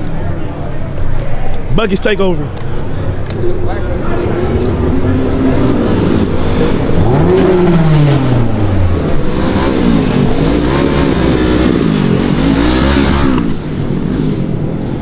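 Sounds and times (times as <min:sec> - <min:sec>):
car engine revving: 0:02.8 - 0:15.0.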